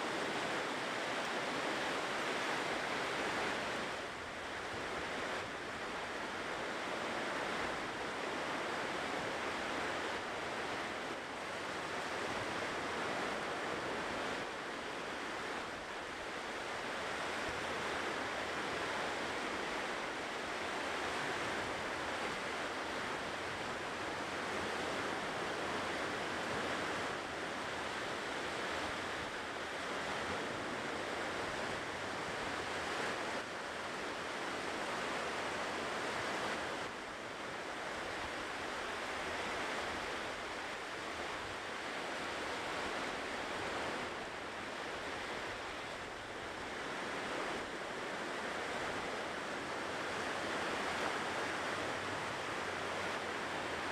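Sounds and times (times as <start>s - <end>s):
ocean surf washing ashore: 0.0s - 53.9s.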